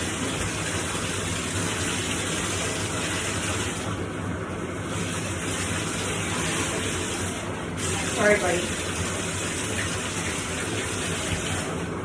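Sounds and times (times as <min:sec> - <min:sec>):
water running from tap: 0:00.0 - 0:12.0.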